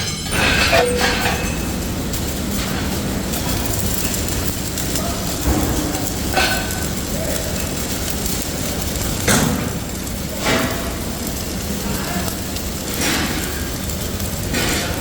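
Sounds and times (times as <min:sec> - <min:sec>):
factory machinery rumbling: 0:00.0 - 0:15.0.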